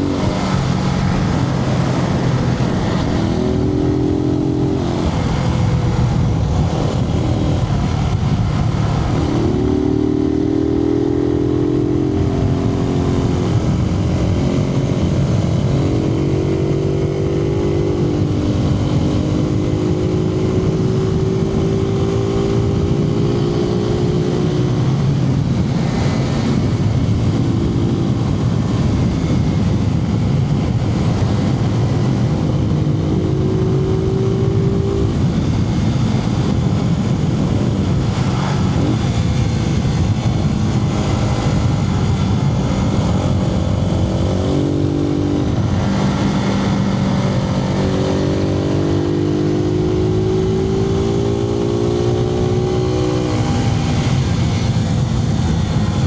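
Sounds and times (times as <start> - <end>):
low wind rumble: 0.0 - 56.0
motorcycle engine accelerating: 0.0 - 56.0.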